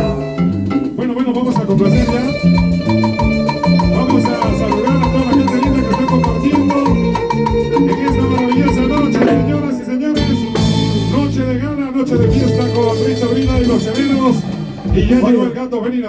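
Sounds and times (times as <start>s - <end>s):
salsa band playing: 0.0s - 15.6s.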